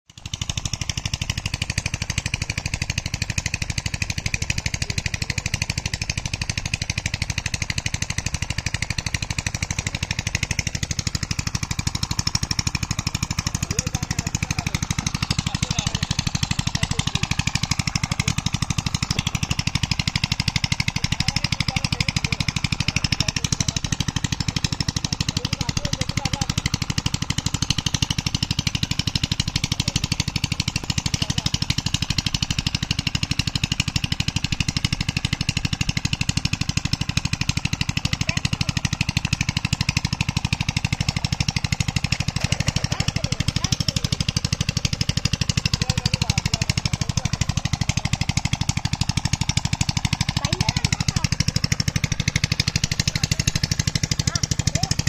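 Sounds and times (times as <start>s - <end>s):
small engine chugging: 0.1s - 55.0s.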